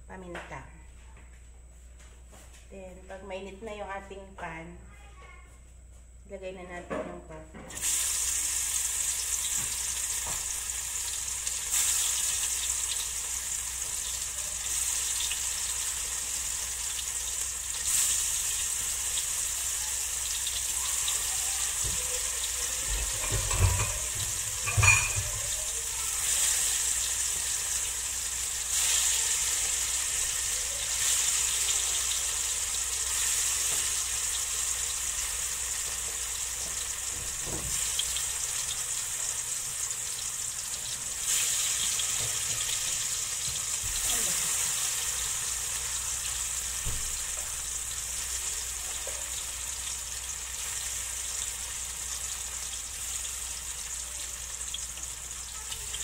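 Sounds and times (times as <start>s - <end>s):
tofu sizzling in oil: 7.7s - 56.0s.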